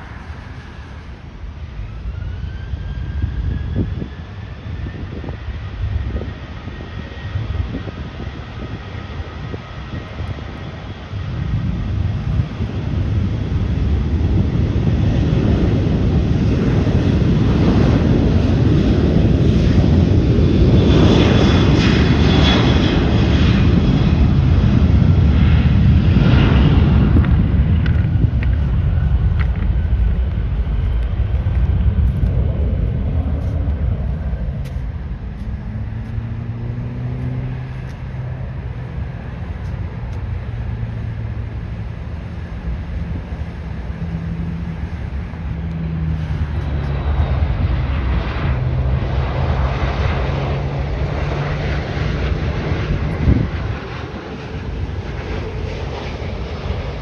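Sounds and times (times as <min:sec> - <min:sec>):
jet engines passing: 0:00.0 - 0:57.0.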